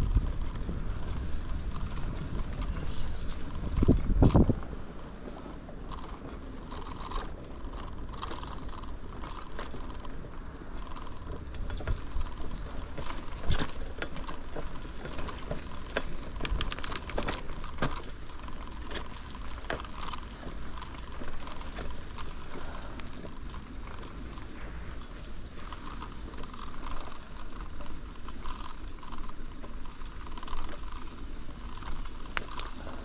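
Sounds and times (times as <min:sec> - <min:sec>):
bicycle rattling on rough trail: 0:00.0 - 0:33.0.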